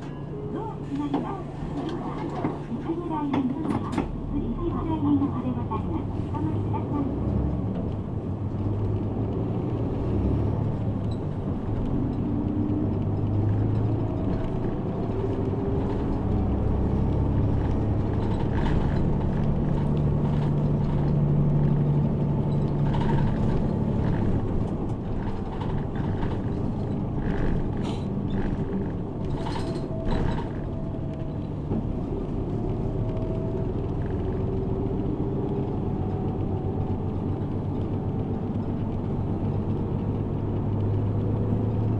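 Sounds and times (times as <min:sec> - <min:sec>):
bus engine and road rumble: 0:00.0 - 0:41.9.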